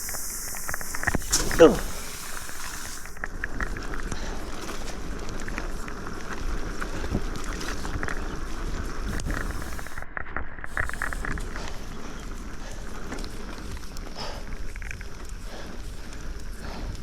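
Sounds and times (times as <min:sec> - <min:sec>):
bike knocking and rattling: 0:00.0 - 0:17.0
tyres rolling on dirt: 0:00.0 - 0:17.0
wind rumbling on microphone: 0:00.0 - 0:17.0.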